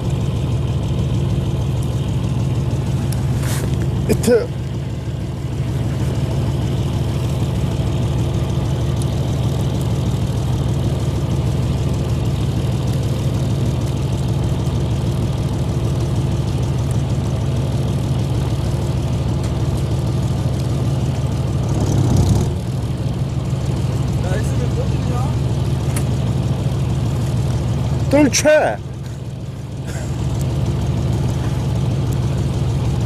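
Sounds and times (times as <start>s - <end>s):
boat engine humming: 0.0s - 33.0s.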